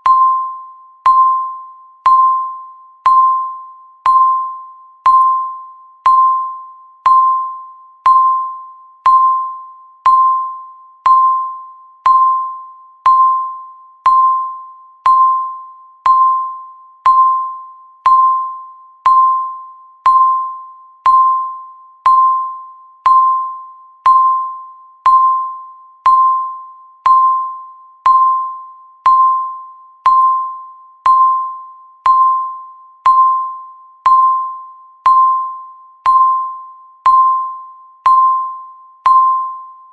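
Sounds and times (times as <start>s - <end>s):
timer ticking pings: 0.0s - 39.9s.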